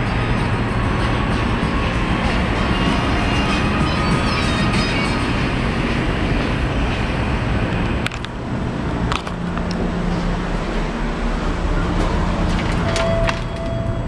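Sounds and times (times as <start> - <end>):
loud outdoor rumble: 0.0 - 14.0.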